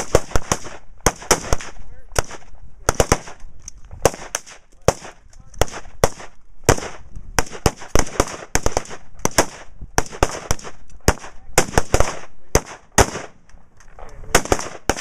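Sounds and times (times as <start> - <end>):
rifle shots with echo: 0.0 - 13.4, 14.2 - 15.0.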